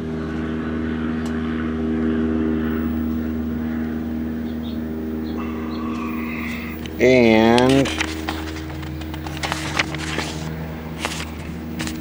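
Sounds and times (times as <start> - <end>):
broad rushing noise: 0.0 - 12.0.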